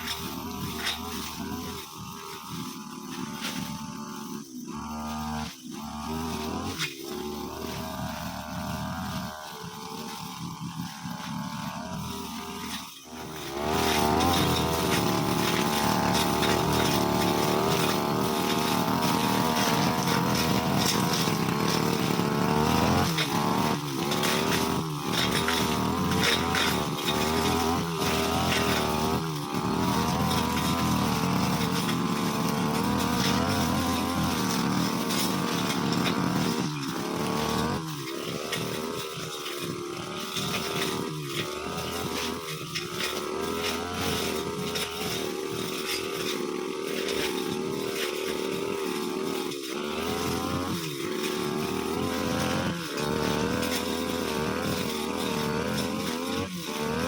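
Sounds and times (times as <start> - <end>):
brushcutter engine revving: 0.0 - 57.0.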